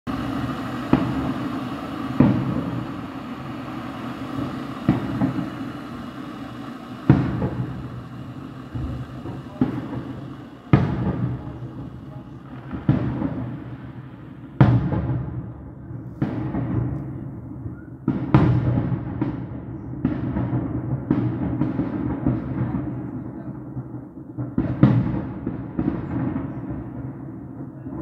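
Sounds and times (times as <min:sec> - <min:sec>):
firework booms with rumbling echo: 0:00.1 - 0:28.0.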